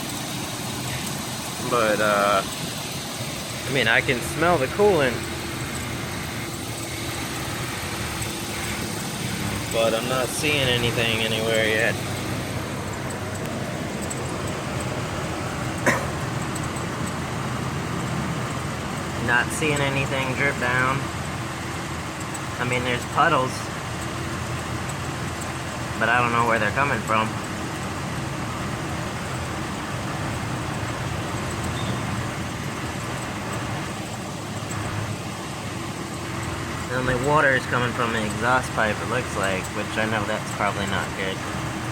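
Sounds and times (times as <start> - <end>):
truck engine idling: 0.0 - 41.9.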